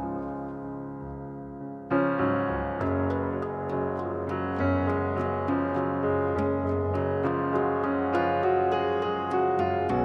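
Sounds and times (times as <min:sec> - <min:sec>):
instrumental piano music: 0:00.0 - 0:10.0.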